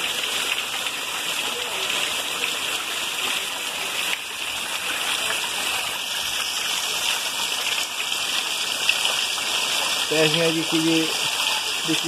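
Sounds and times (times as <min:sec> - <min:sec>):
heavy rain falling: 0:00.0 - 0:12.0
water pouring from drainpipe: 0:00.0 - 0:12.0.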